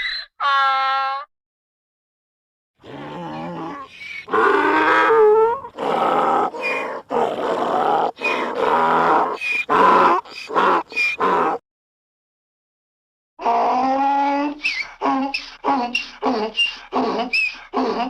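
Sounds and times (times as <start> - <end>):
donkey braying: 0.0 - 1.3, 2.8 - 11.6, 13.4 - 18.0.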